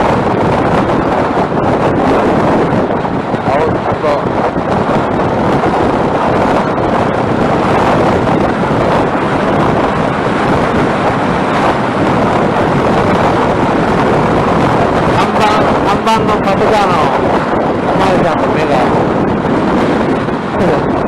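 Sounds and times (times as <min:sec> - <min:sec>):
motorcycle and road noise: 0:00.0 - 0:21.0
wind buffeting microphone: 0:00.0 - 0:21.0.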